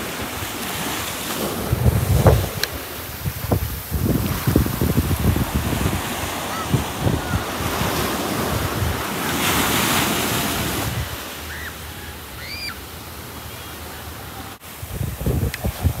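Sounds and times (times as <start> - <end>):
wind gusting on microphone: 0.0 - 11.4, 14.5 - 16.0
surf washing on rocky shore: 0.0 - 16.0.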